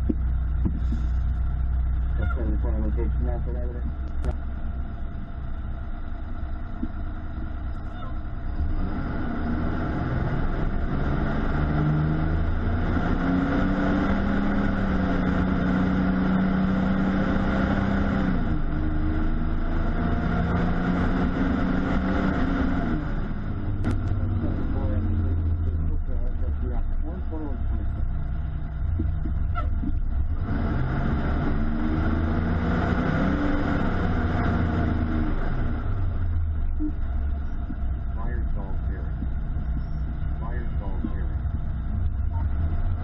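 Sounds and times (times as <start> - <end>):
diesel engine accelerating: 0.0 - 43.0
road noise: 0.0 - 43.0.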